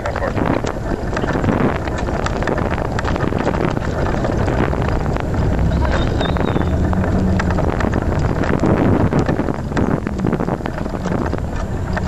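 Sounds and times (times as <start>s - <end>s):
road rumble: 0.0s - 12.0s
steady low hum: 0.0s - 12.0s
wind noise: 0.0s - 12.0s.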